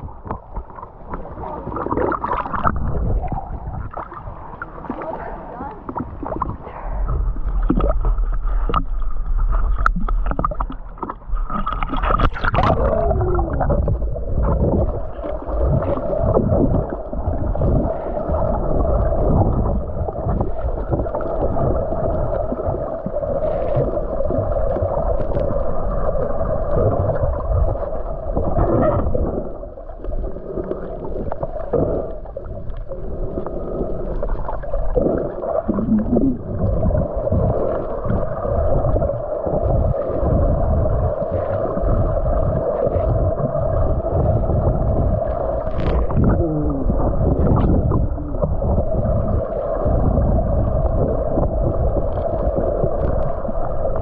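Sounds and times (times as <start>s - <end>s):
muffled underwater gurgling: 0.0s - 54.0s.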